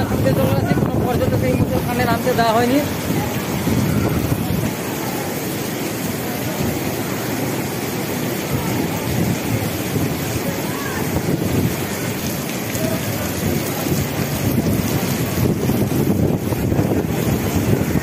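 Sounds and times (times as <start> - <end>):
wind buffeting microphone: 0.0 - 5.2, 8.4 - 18.0
heavy rain: 0.0 - 18.0
rough sea surf: 0.0 - 18.0.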